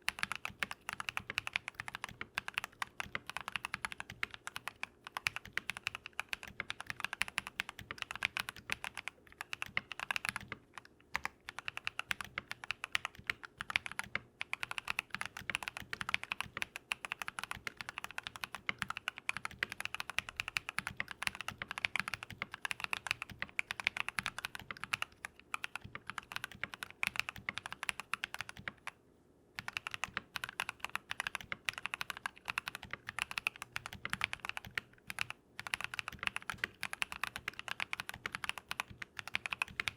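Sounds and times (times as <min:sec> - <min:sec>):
mechanical keyboard typing: 0:00.0 - 0:29.0, 0:29.6 - 0:39.9.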